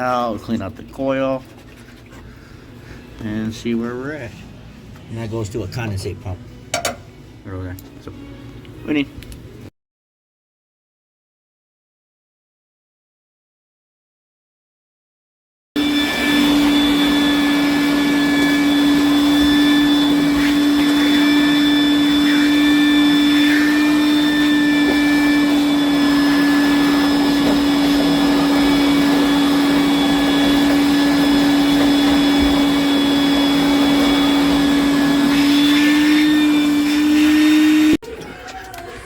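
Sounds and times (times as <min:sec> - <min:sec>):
shop vacuum running: 0:00.0 - 0:09.1, 0:15.8 - 0:38.0.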